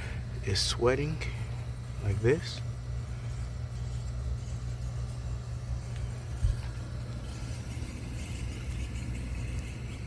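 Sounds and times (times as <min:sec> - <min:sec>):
air handler humming: 0:00.0 - 0:10.0.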